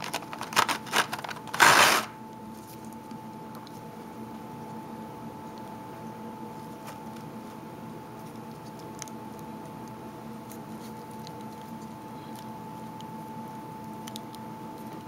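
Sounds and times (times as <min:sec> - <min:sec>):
steady hum with high tone: 0:00.0 - 0:15.0.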